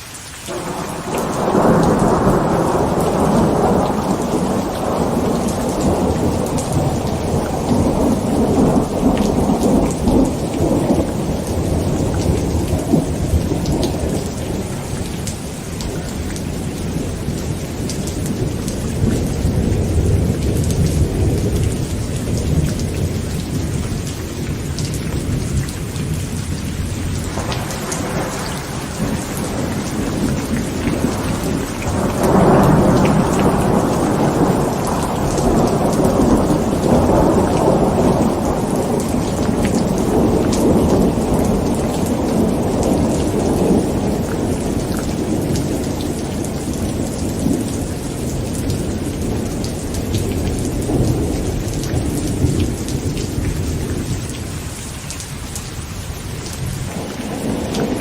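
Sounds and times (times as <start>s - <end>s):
heavy rain drumming on a tent: 0.0s - 58.0s
thunder rumbling: 0.5s - 55.0s, 55.8s - 58.0s.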